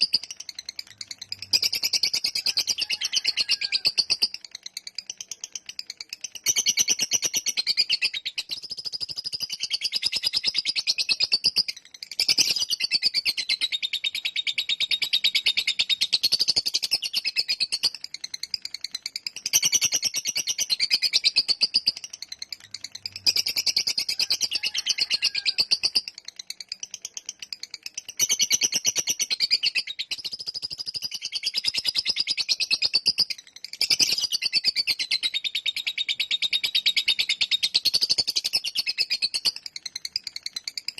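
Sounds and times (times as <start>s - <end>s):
lovebird chattering song: 0.0s - 40.9s.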